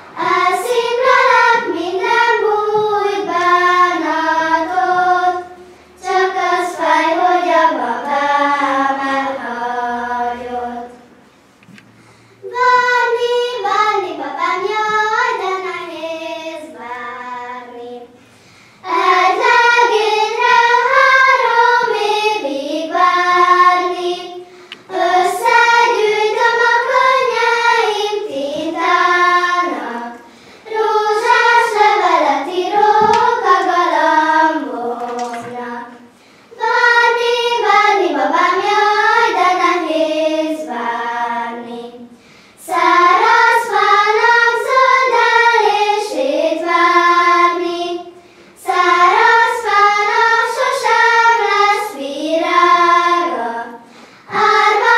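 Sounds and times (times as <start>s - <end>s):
children singing in unison: 0.0s - 11.2s, 12.4s - 54.9s.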